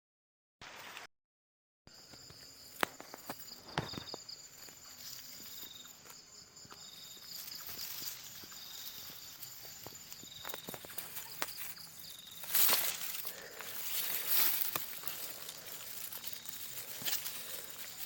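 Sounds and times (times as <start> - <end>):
insects chirping: 1.9 - 18.0
crackling rustles in brush: 2.7 - 18.0
footsteps in dry grass: 2.8 - 18.0.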